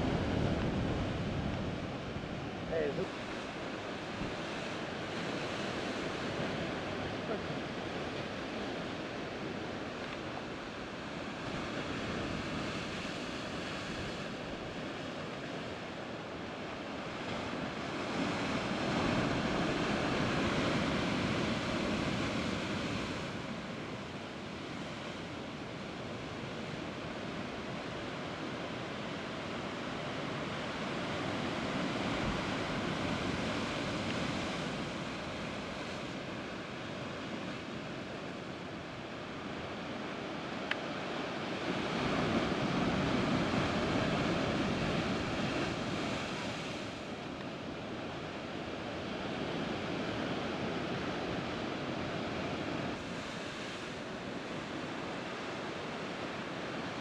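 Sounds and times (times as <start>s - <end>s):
surf washing against rocks: 0.0s - 57.0s.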